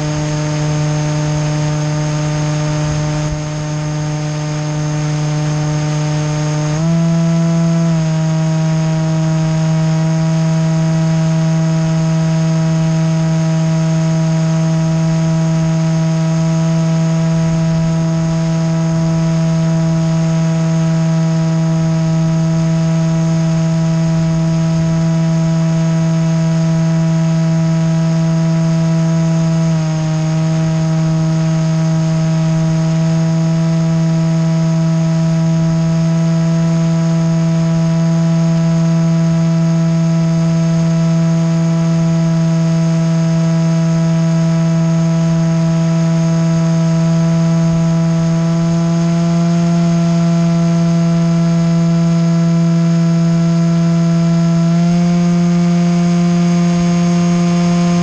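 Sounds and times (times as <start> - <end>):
small aircraft propeller humming: 0.0 - 58.0.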